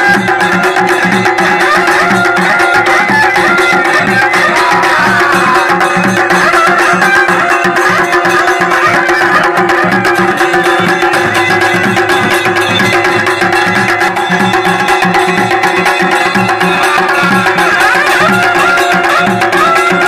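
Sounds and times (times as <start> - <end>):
drums beating: 0.0 - 20.0
bagpipe melody over drone: 1.5 - 20.0.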